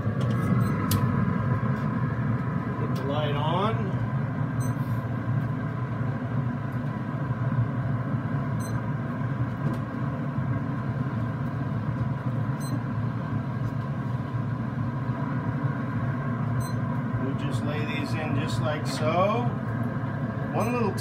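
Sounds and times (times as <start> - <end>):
grill fan humming: 0.0 - 21.0.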